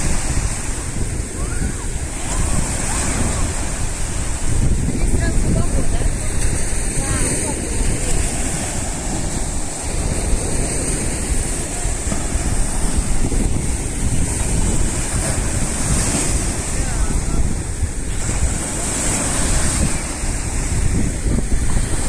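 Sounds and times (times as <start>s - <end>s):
sea waves breaking on shore: 0.0s - 22.0s
wind buffeting microphone: 0.0s - 22.0s.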